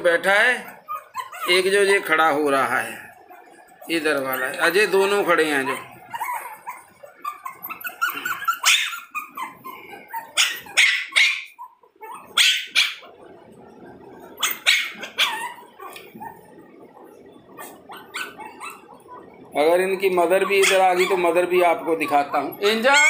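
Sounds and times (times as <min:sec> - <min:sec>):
puppies yapping: 0:00.6 - 0:02.2, 0:03.0 - 0:23.0
puppies whining: 0:00.6 - 0:23.0.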